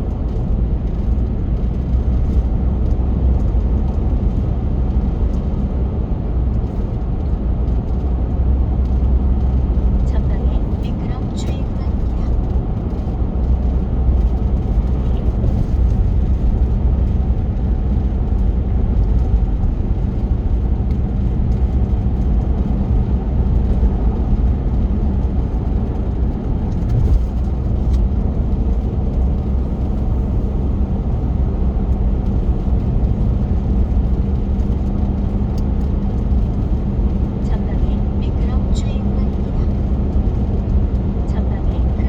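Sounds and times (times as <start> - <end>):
car engine and tyre rumble: 0.0 - 42.0.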